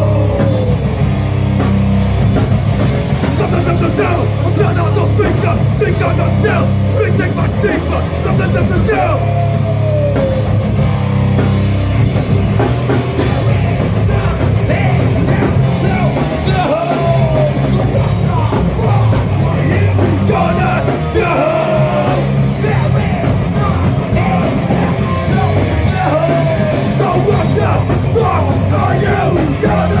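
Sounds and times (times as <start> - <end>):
rock band playing loudly: 0.0 - 30.0.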